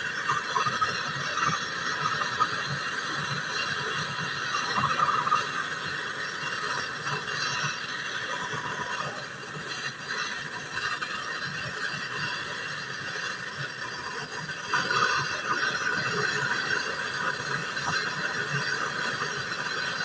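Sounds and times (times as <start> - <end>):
torch flame hissing: 0.0 - 20.0.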